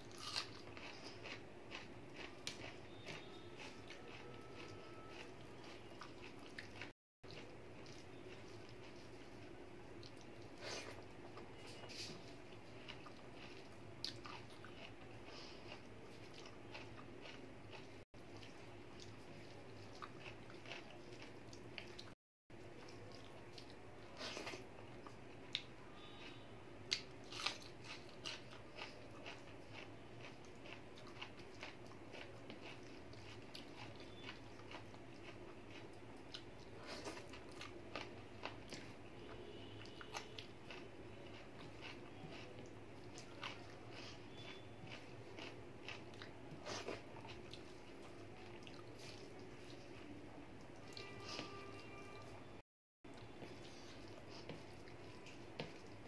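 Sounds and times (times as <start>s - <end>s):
chewing and lip smacking: 0.0s - 22.2s, 22.8s - 51.6s, 53.1s - 56.0s.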